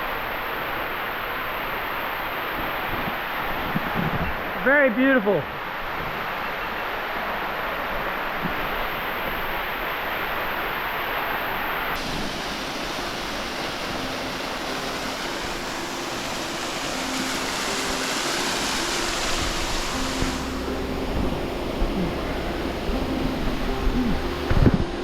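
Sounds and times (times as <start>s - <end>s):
waterfall rushing: 4.4s - 25.0s.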